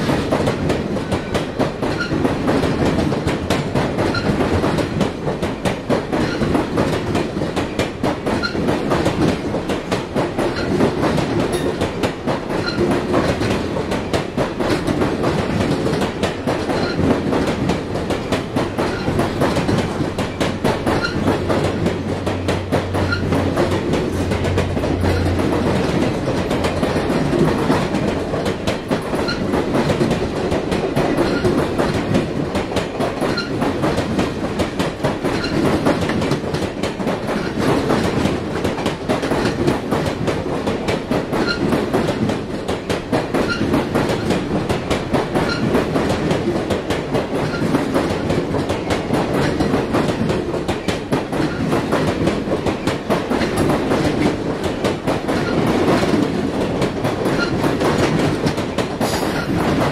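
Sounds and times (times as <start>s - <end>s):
train wheels clickety-clack: 0.0s - 59.9s.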